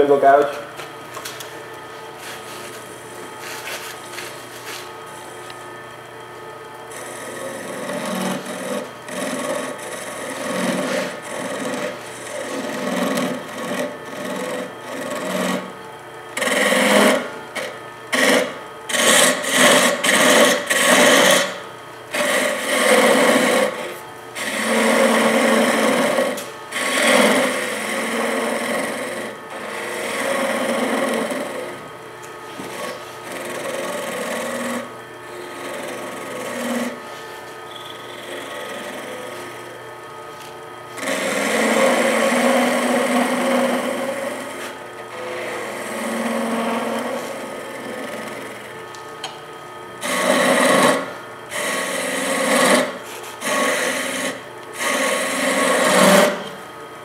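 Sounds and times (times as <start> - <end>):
gouge scraping cuts on wood: 2.2 - 4.9, 6.9 - 15.7, 16.4 - 31.8, 32.5 - 37.3, 41.0 - 48.6, 50.0 - 56.6
wood lathe running: 2.2 - 5.9, 6.6 - 31.9, 32.5 - 49.0, 50.0 - 56.7.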